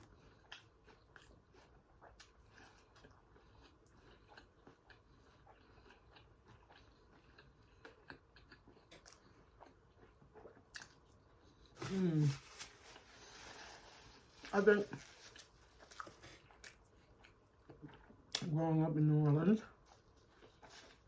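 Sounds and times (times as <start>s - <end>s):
chewing crispy food: 0.0s - 18.5s, 19.7s - 21.0s.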